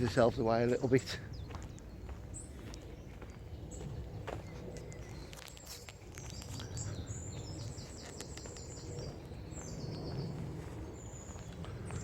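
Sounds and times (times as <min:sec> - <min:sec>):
steady low rumble: 0:00.0 - 0:12.0
small bird chirping: 0:00.7 - 0:12.0.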